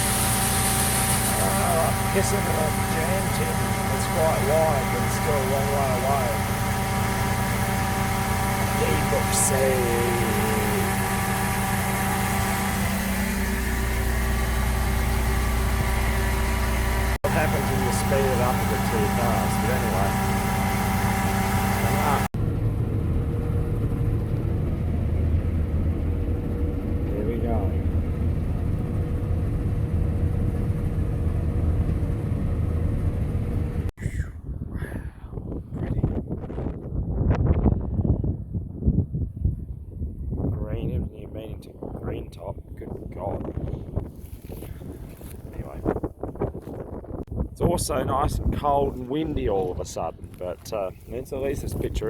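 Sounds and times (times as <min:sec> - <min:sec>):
farm machinery engine humming: 0:00.0 - 0:34.1, 0:43.7 - 0:52.0.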